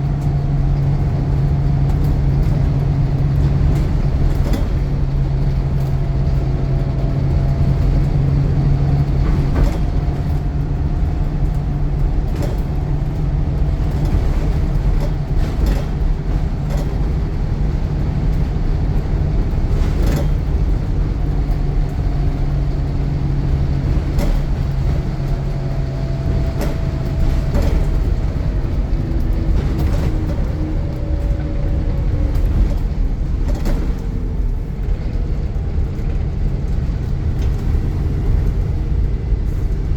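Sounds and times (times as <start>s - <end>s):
bus body knocks and rattles: 0.0s - 39.9s
bus engine droning: 0.0s - 39.9s.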